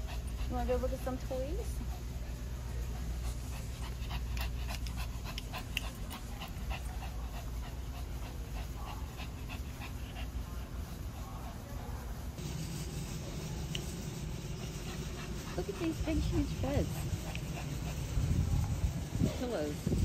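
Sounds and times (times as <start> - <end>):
dog panting rapidly: 0.0 - 20.0.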